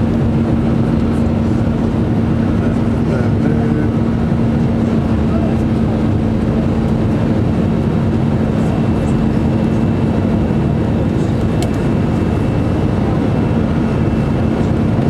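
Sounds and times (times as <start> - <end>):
aircraft cabin engine and airflow noise: 0.0 - 15.0
constant low hum: 0.0 - 15.0.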